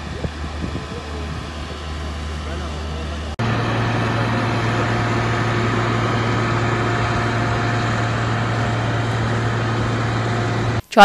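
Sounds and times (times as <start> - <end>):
fire truck engine droning: 0.0 - 11.0.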